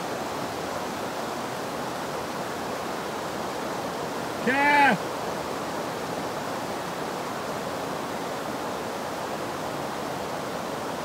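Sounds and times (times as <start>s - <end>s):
whitewater rushing over rocks: 0.0s - 11.0s.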